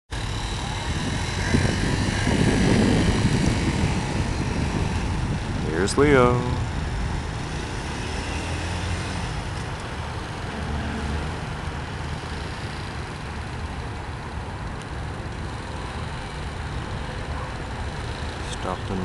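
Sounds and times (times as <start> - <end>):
motorcycle engine running: 0.1 - 19.0.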